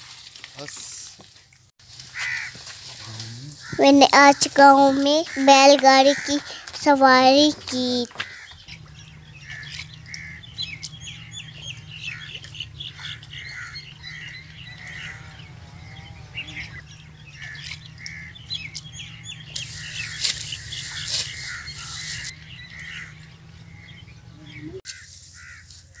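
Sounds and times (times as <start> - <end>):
small birds chirping: 2.2 - 26.0.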